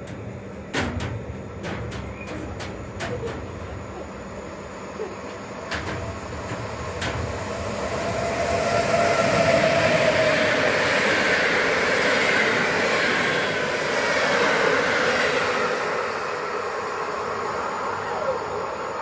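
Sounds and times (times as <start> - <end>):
passenger train passing: 0.0 - 19.0
steady whine: 0.0 - 19.0.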